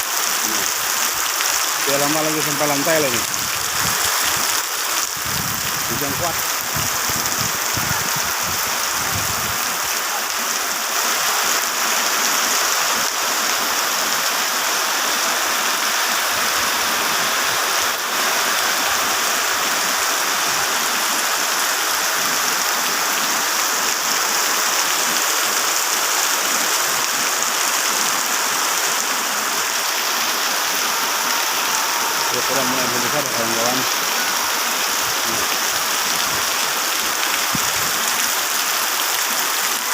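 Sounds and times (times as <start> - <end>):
heavy rain pouring: 0.0 - 39.9
running water rushing: 0.0 - 39.9.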